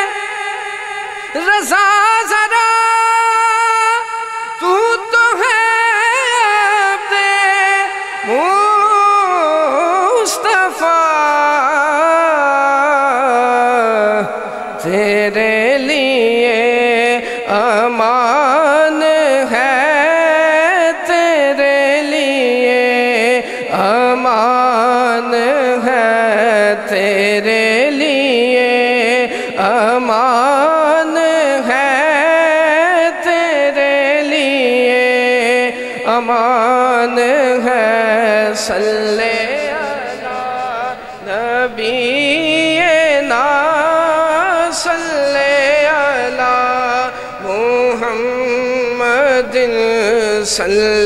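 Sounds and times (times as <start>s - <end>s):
man singing into a microphone: 0.0s - 51.0s.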